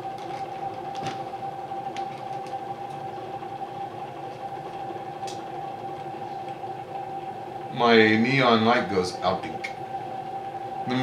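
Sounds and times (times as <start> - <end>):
motor rotor humming and whining: 0.0 - 11.0.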